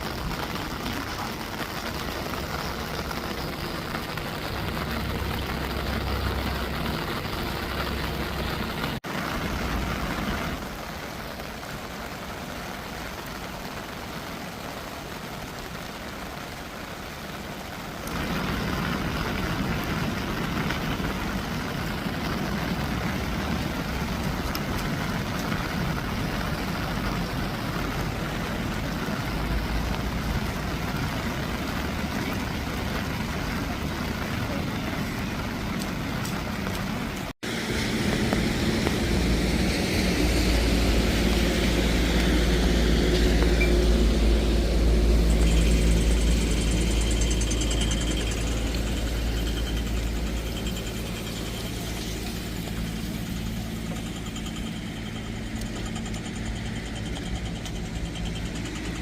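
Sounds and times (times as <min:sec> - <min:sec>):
rain hiss on wet tarmac: 0:00.0 - 0:59.0
road traffic noise: 0:00.0 - 0:59.0
vehicle engine rumbling: 0:00.0 - 0:59.0.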